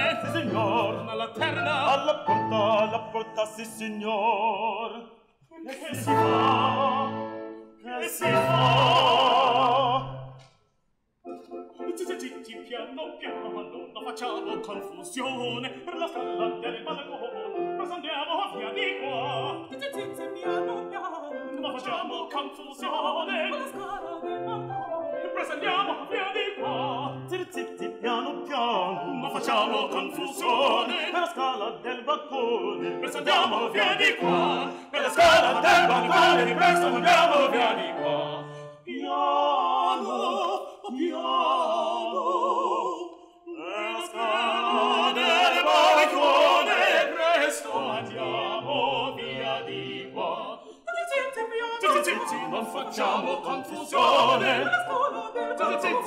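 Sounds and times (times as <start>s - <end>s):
operatic ensemble singing: 0.0s - 10.5s, 11.4s - 56.0s.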